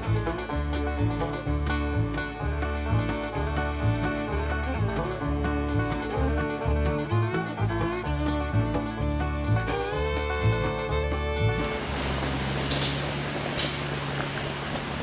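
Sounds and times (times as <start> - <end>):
bluegrass music with plucked strings: 0.0 - 14.4.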